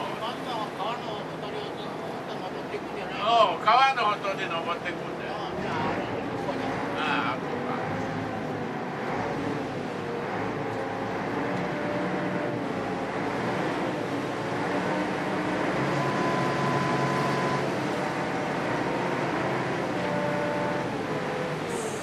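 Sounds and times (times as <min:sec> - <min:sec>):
boat diesel engine running: 0:00.0 - 0:22.0.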